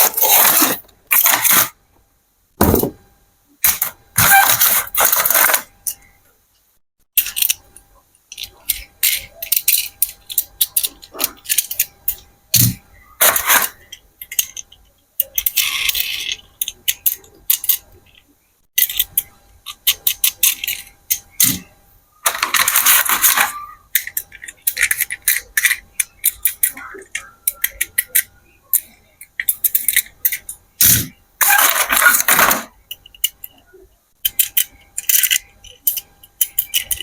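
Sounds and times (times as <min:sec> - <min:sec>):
plastic toys clicking and rattling: 0:00.0 - 0:01.8, 0:03.6 - 0:06.1, 0:07.2 - 0:37.0.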